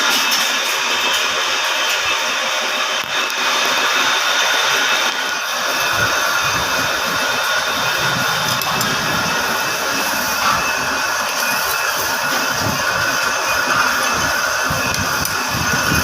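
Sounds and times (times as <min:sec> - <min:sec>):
metal lathe machining steel: 0:00.0 - 0:16.0.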